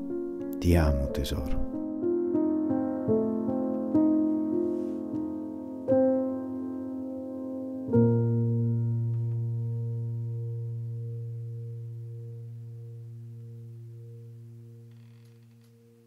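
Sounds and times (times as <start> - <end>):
low piano note ringing: 0.0 - 16.0.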